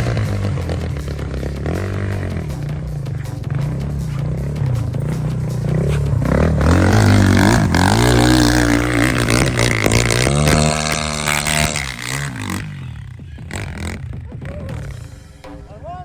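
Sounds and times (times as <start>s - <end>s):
motorcycle engine revving: 0.0s - 15.3s.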